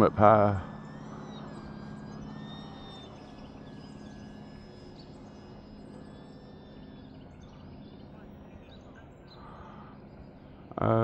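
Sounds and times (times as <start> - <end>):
model plane motor droning: 0.0 - 11.0
bird chirps: 0.6 - 10.7.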